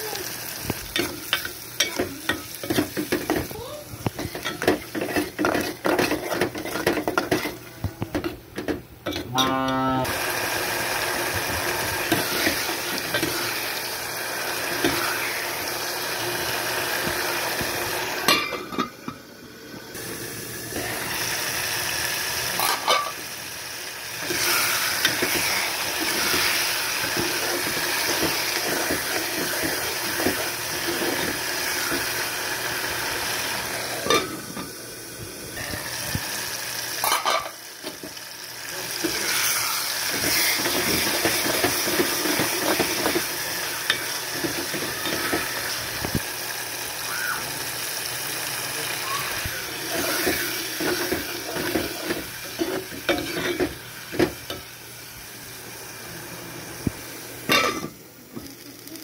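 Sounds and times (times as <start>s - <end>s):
food sizzling: 0.0s - 59.0s.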